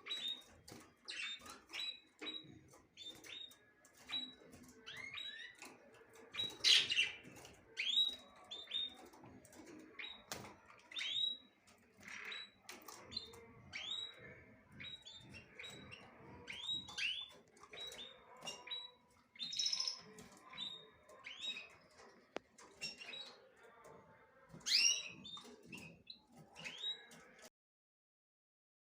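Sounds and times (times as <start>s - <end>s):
small birds chirping: 0.0s - 27.5s.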